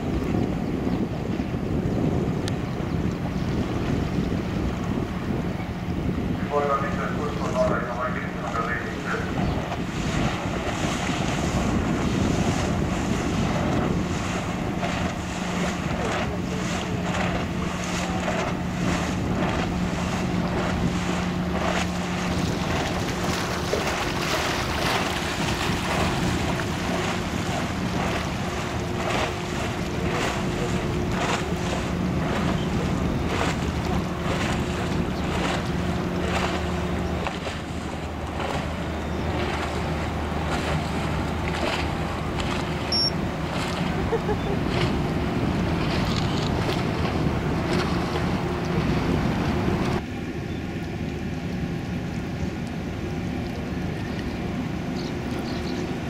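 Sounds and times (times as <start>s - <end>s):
wind buffeting microphone: 0.0s - 56.0s
ferry engines droning: 5.1s - 56.0s.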